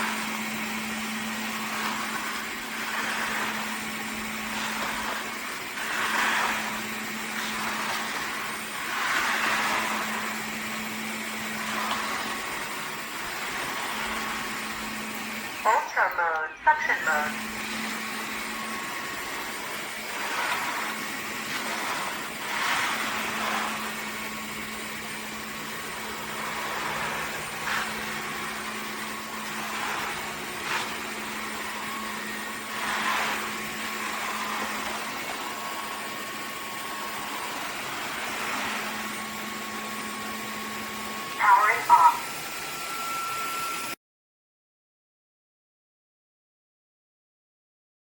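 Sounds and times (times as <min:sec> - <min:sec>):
vacuum mop motor hum: 0:00.0 - 0:44.0.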